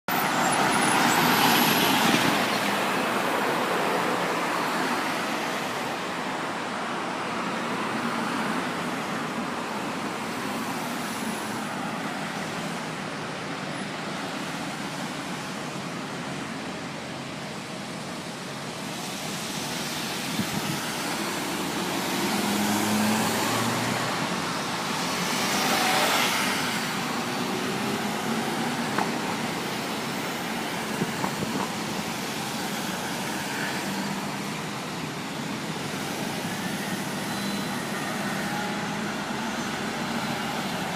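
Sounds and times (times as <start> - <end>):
vehicles driving past: 0.1 - 40.9.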